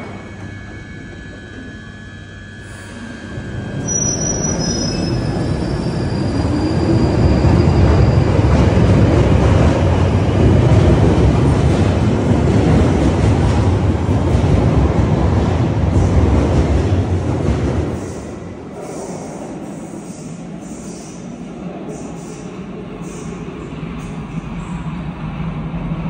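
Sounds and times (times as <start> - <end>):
underground train rumbling: 0.0 - 26.0.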